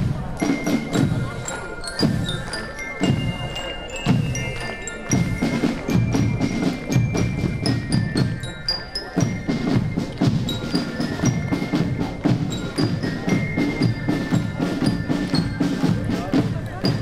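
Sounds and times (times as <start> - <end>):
bell-lyra notes: 0.0 - 17.0
snare and bass drums: 0.0 - 17.0
flute melody: 0.1 - 17.0.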